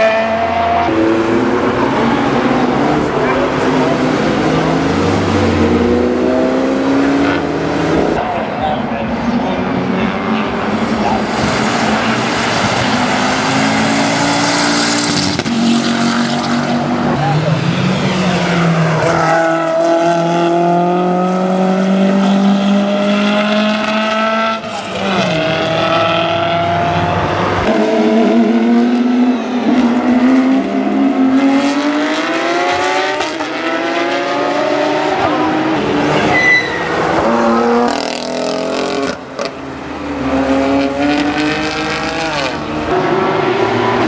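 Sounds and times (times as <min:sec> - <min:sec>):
race car engine passing: 0:00.0 - 0:44.0.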